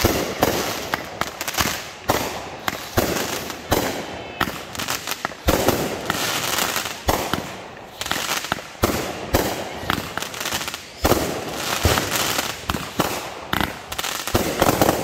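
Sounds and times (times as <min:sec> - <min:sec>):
fireworks bursting with sharp bangs: 0:00.0 - 0:15.0
fireworks hiss: 0:00.0 - 0:15.0.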